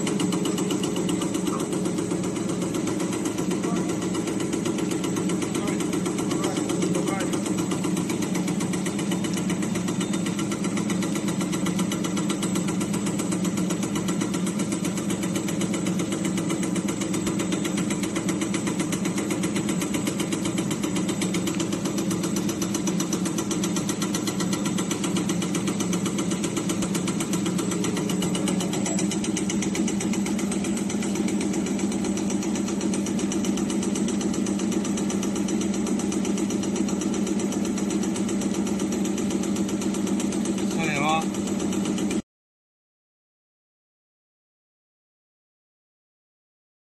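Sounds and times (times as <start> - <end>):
production line clatter: 0.0 - 42.2.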